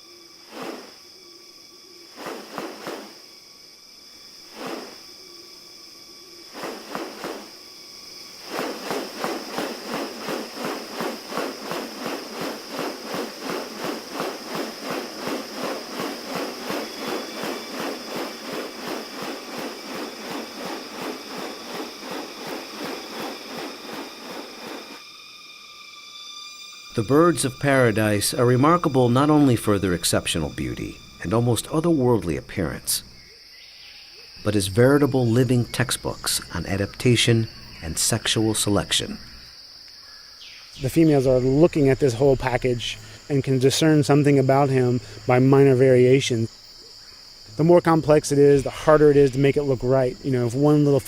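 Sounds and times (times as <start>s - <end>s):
high-pitched insect drone: 0.0s - 51.0s.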